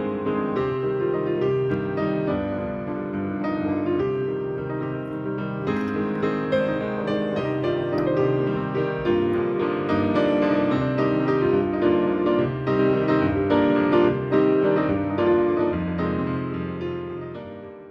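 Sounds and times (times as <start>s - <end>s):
piano music: 0.0s - 17.9s.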